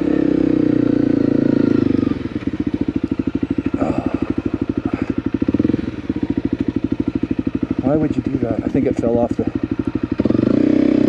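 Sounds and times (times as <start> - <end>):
motorcycle engine pulling and idling: 0.0 - 11.0.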